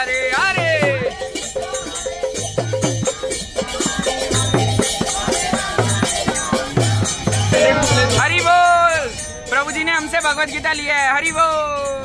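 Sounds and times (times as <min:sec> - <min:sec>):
rattling hand percussion: 0:00.0 - 0:12.0.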